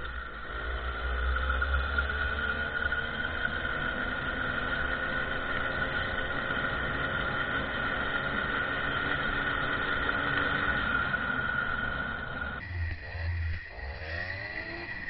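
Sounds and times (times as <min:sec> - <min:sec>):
moped engine droning: 0:00.0 - 0:15.0.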